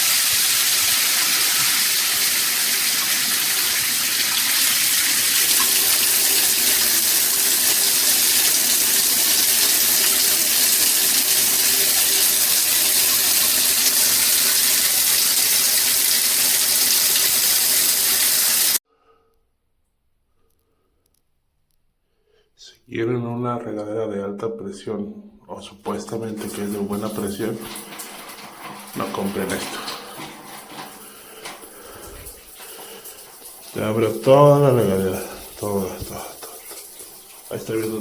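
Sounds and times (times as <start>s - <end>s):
shower water spraying: 0.0s - 18.8s, 26.1s - 38.0s.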